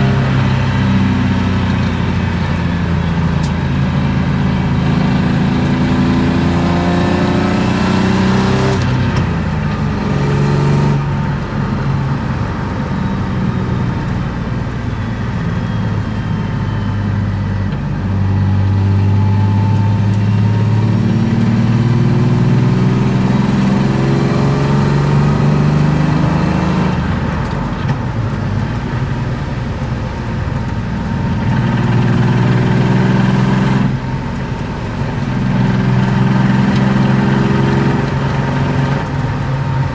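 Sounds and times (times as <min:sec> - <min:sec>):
car engine revving through gears: 0:00.0 - 0:13.9, 0:15.1 - 0:29.2, 0:30.1 - 0:39.9.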